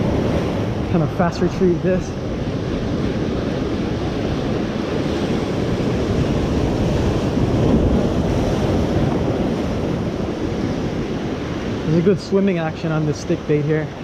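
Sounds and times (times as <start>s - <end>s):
surf breaking on rocks: 0.0s - 14.0s
wind buffeting microphone: 0.0s - 14.0s.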